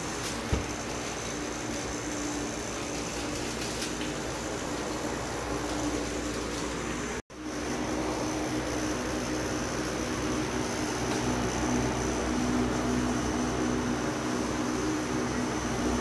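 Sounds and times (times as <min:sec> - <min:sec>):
electric fan motor hum: 0:00.0 - 0:16.0
fan blades rushing air: 0:00.0 - 0:16.0.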